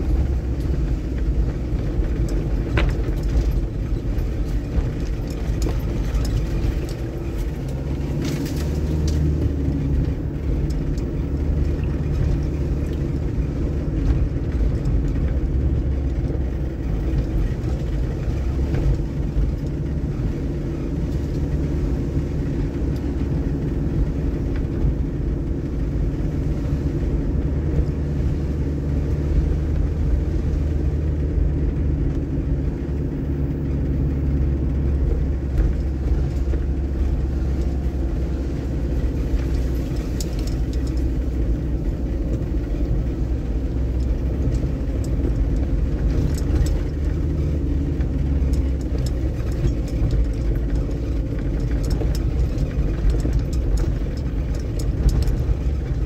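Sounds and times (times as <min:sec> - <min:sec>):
engine drone inside car cabin: 0:00.0 - 0:56.0.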